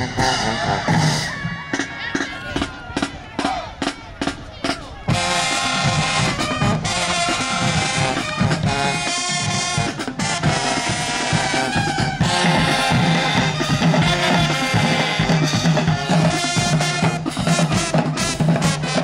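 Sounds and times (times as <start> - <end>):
brass sustained notes: 0.0 - 19.0
drums striking steady beat: 0.0 - 19.0.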